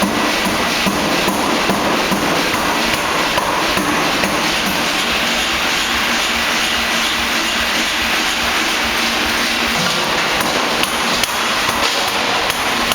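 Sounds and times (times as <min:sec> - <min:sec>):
machine running: 0:00.0 - 0:12.9
pneumatic forging hammer striking: 0:00.0 - 0:12.9.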